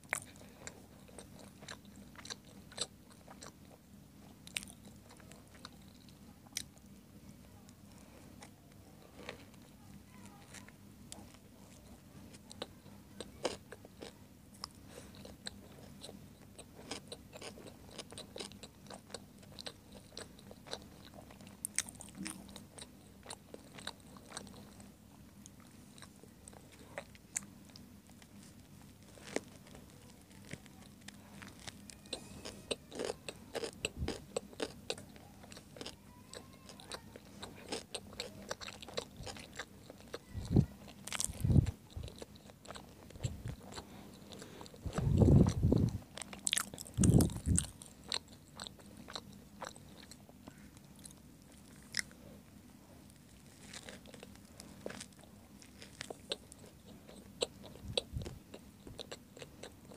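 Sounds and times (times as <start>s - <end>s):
biting and chewing food: 0.0s - 7.0s, 7.7s - 59.9s.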